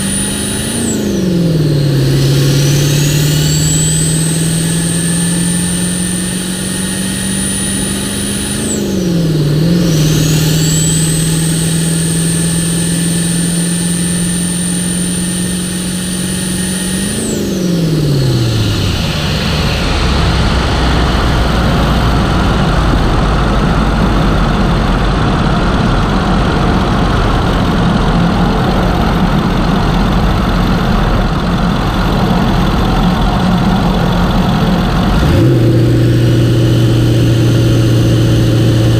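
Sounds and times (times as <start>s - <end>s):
diesel engine running: 0.0s - 38.9s
turbocharger whistling whine: 0.0s - 38.9s.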